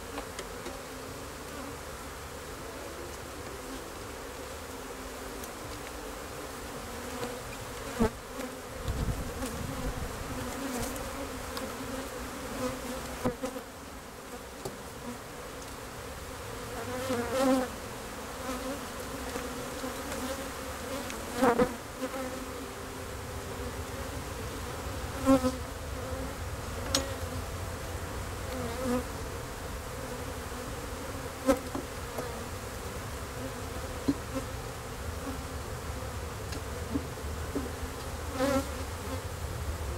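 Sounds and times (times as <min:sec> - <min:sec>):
bee colony buzzing: 0:00.0 - 0:39.9.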